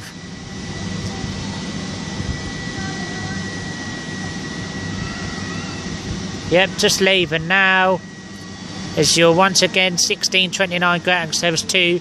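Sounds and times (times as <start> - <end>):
constant high whine: 0.0 - 12.0
cooling fans whirring: 0.0 - 12.0
low hum: 0.0 - 12.0.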